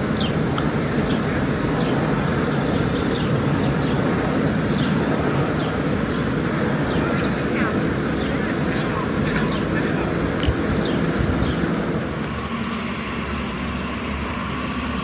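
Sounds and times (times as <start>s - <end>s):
steady rushing noise: 0.0s - 15.0s
small birds chirping: 1.0s - 15.0s.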